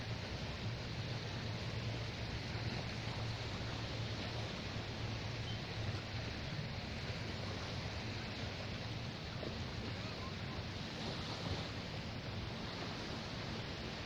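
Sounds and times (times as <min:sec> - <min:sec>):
surf washing: 0:00.0 - 0:14.0
wind noise on microphone: 0:00.0 - 0:14.0.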